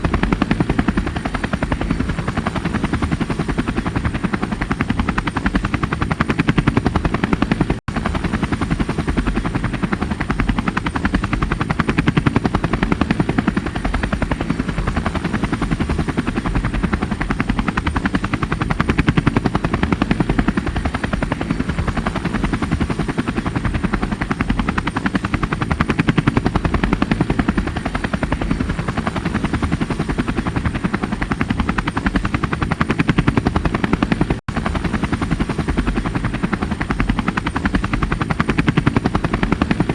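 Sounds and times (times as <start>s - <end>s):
helicopter rotor chopping: 0.0s - 39.9s.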